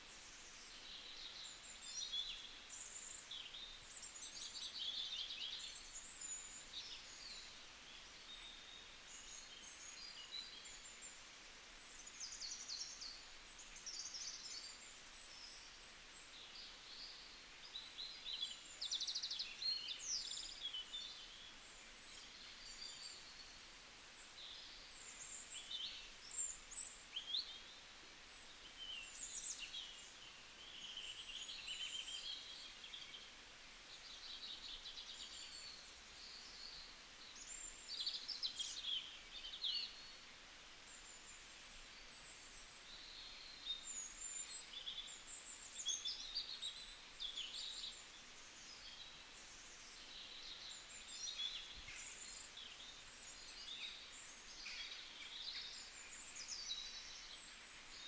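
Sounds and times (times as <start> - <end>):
faint forest ambience hiss: 0.0 - 58.0
small songbirds chirping and trilling: 0.0 - 58.0.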